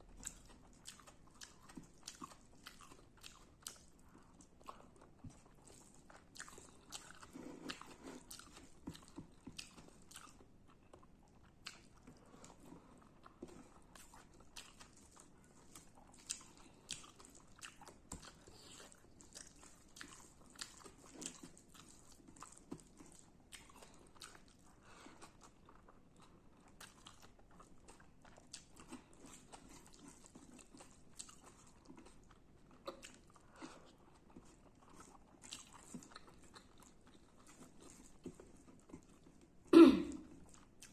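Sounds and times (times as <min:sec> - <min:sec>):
wet chewing: 0:00.0 - 0:40.9.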